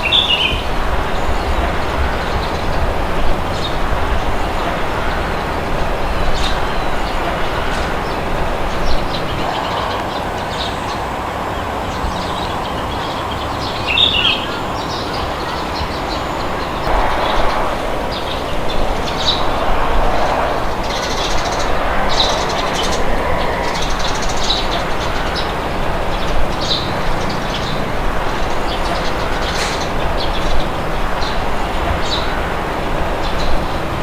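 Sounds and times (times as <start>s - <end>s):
birds chirping: 0.0s - 34.0s
rushing wind: 0.0s - 34.0s.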